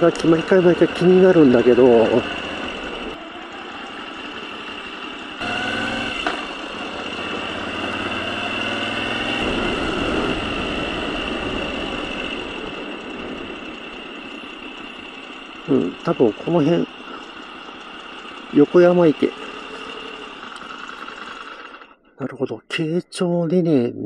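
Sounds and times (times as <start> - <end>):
motorcycle engine running at low speed: 0.0 - 22.1.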